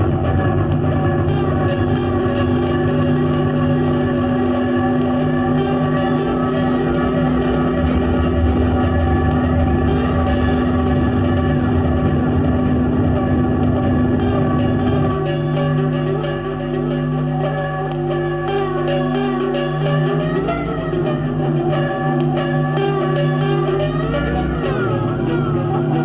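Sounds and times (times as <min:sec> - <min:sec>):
ukulele ambient drone: 0:00.0 - 0:26.0.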